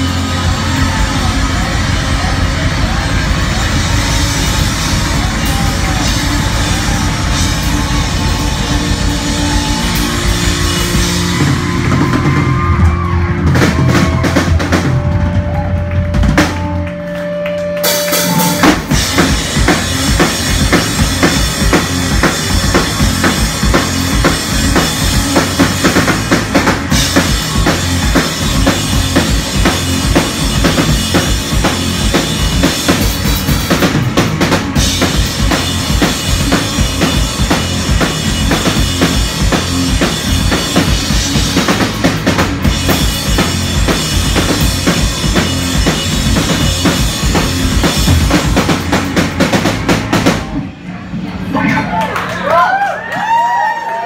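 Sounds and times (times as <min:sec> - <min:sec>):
drum kit rock beat: 0:00.0 - 0:50.8
live rock band playing: 0:00.0 - 0:51.5.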